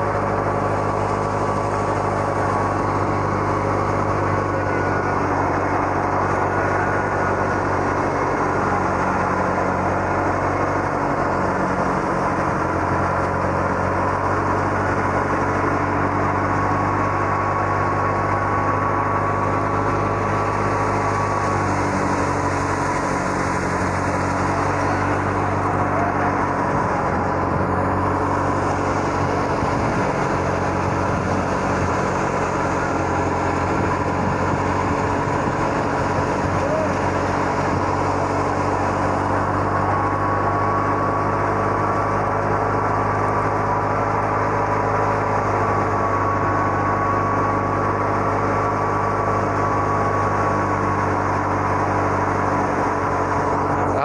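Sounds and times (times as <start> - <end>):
threshing machine running: 0.0 - 54.0
tractor engine drone: 0.0 - 54.0.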